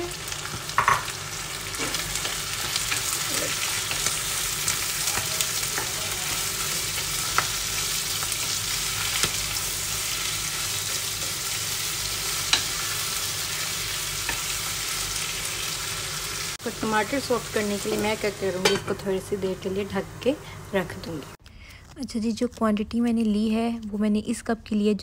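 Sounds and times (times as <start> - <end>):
food sizzling in hot oil: 0.0 - 21.4.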